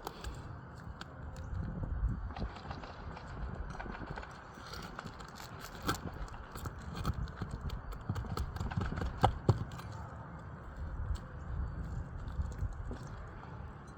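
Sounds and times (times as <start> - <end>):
wind rumble on microphone: 0.0 - 13.9.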